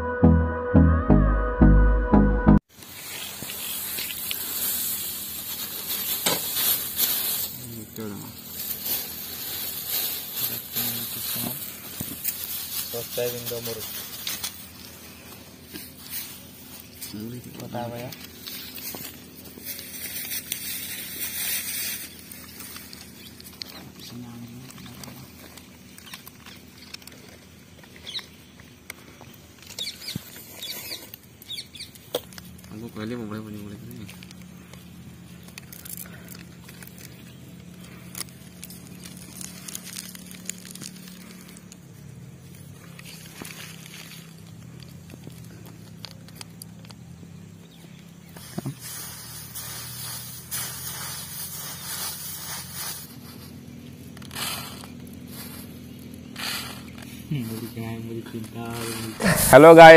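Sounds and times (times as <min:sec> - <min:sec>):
plastic sachets crinkling: 0:02.7 - 0:47.8, 0:48.4 - 0:56.2
hands mixing puffed rice: 0:02.7 - 0:59.9
small birds chirping: 0:02.9 - 0:59.9.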